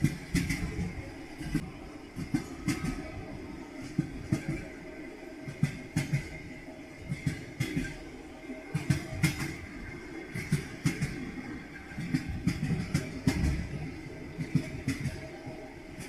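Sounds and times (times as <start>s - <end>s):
moving train rumble: 0.0s - 16.0s
train wheels clattering: 0.0s - 16.0s.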